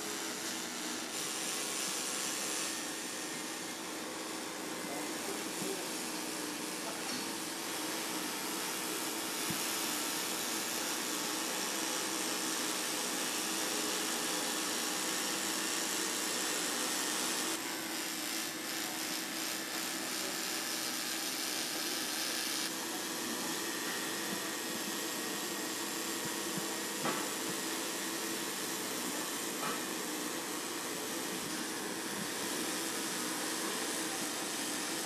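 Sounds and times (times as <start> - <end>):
welding arc hissing: 0.0 - 35.0.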